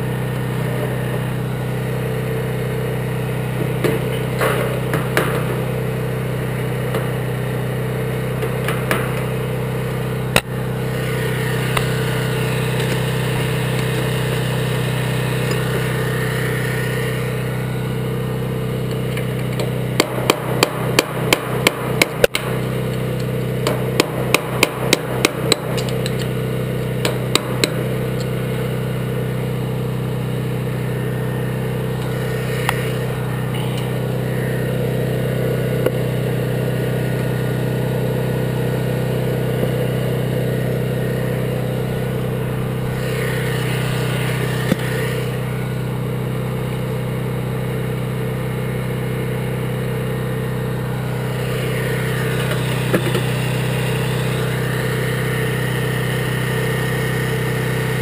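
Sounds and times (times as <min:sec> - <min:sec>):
steady motor hum: 0:00.0 - 0:58.0.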